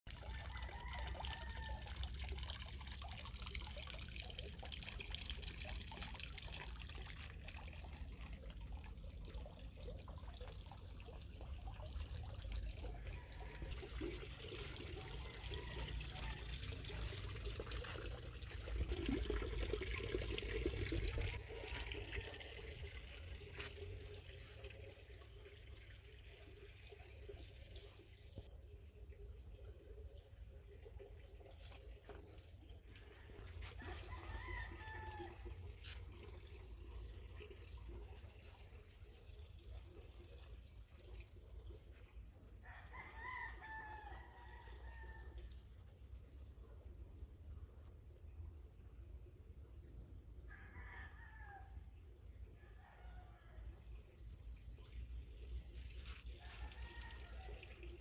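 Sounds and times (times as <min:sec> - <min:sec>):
water trickling: 0:00.1 - 0:58.0.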